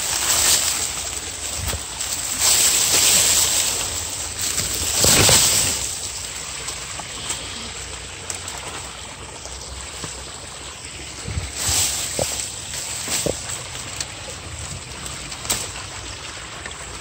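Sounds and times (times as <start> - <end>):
brook running over stones: 0.0 - 17.0.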